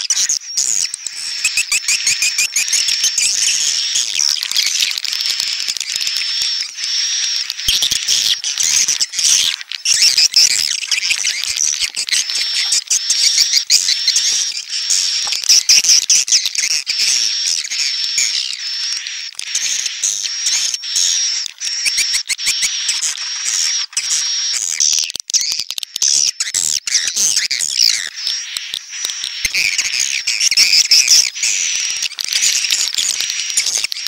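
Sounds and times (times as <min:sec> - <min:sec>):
swiftlet chirps and twitters: 0:00.0 - 0:25.6, 0:26.3 - 0:34.0.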